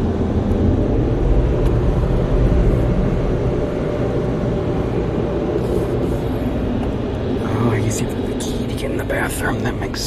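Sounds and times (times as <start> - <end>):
low rumble inside car cabin: 0.0 - 10.0.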